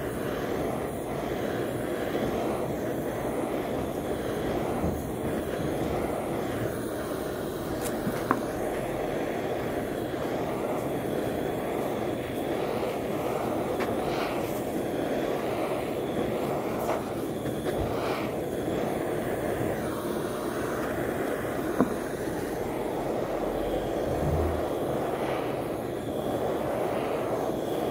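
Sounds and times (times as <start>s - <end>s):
gas torch flame roaring hiss: 0.0s - 27.9s.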